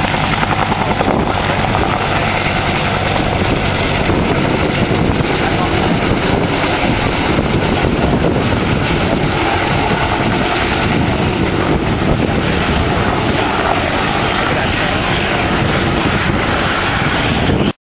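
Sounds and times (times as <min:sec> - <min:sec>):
helicopter rotor chopping: 0:00.0 - 0:17.8
turboshaft engine whine: 0:00.0 - 0:17.8.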